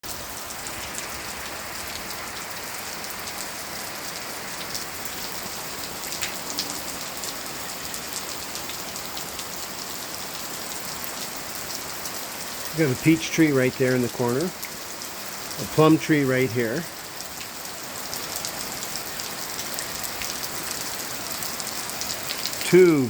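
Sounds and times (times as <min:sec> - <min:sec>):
hiss of falling rain: 0:00.0 - 0:23.0
raindrops ticking on surfaces: 0:00.0 - 0:23.0.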